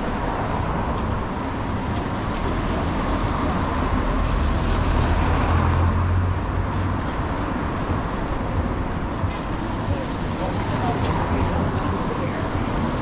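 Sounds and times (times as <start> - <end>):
street traffic din: 0.0 - 13.0
vehicle passing close by: 0.0 - 13.0.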